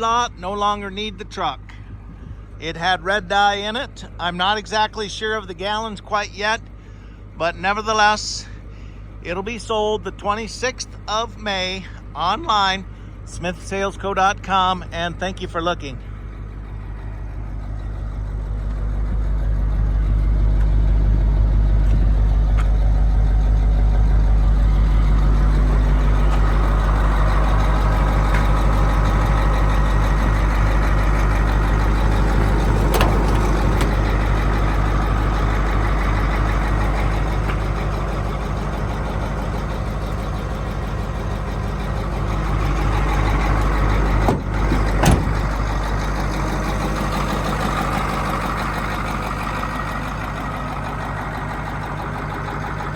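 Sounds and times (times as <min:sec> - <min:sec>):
diesel truck engine rumbling: 0:00.0 - 0:52.9.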